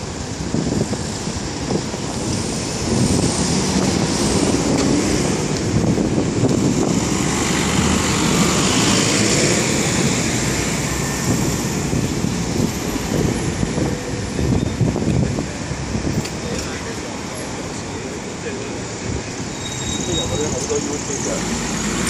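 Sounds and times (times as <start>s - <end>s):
cars driving past: 1.5s - 14.6s, 15.4s - 22.0s.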